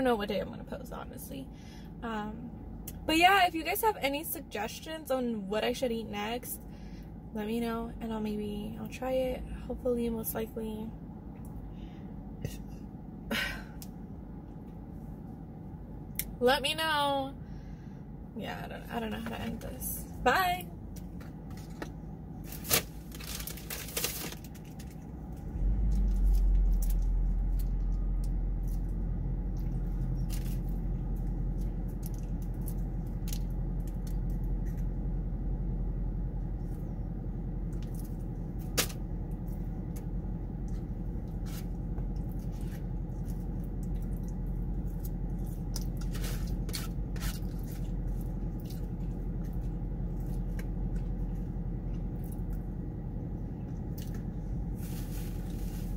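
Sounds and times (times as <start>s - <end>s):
low rumble: 6.0s - 55.9s.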